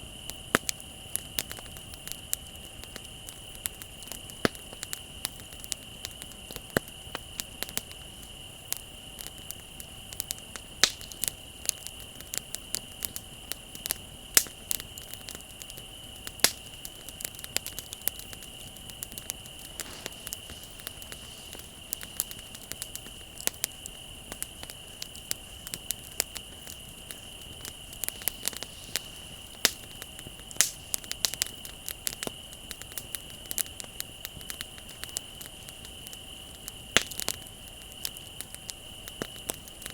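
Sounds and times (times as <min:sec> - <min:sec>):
bonfire crackling and popping: 0:00.0 - 0:39.9
crickets chirring: 0:00.0 - 0:39.9.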